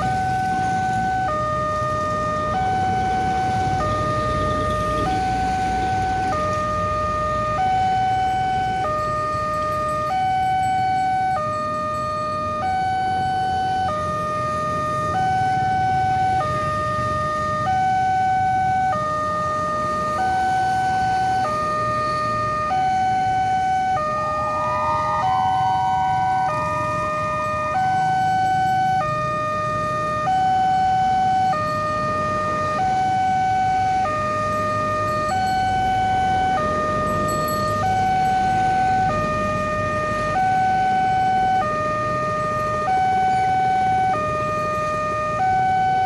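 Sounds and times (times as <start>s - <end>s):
level crossing two-tone alarm: 0.0s - 46.0s.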